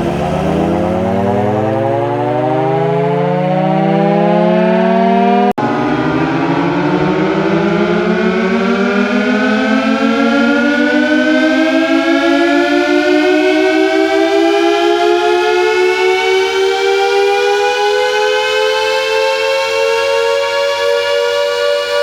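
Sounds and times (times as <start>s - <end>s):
air raid siren winding up: 0.0s - 22.0s.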